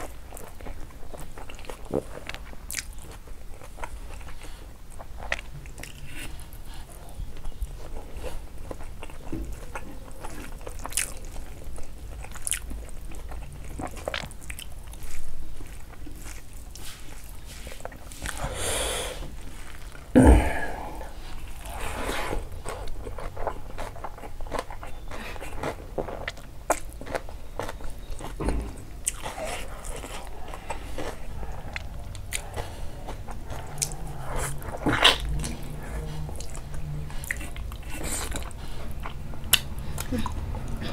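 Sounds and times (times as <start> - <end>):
chewing and biting: 0.0 - 18.5, 20.7 - 40.9.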